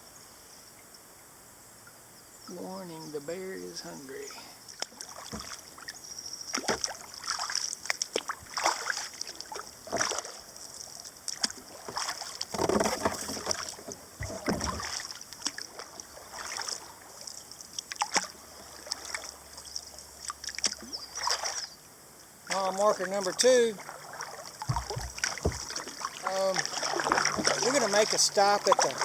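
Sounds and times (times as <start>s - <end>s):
water trickling off paddle: 2.5s - 21.8s, 22.4s - 29.0s
paddle splashing in water: 4.3s - 21.8s, 22.4s - 29.0s.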